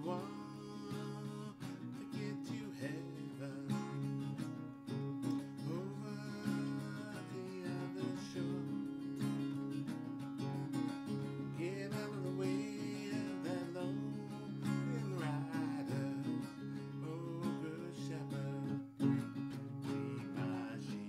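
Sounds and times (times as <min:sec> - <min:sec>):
person singing: 0:00.0 - 0:04.4, 0:05.4 - 0:09.6, 0:11.4 - 0:21.0
acoustic guitar strumming: 0:00.0 - 0:21.0.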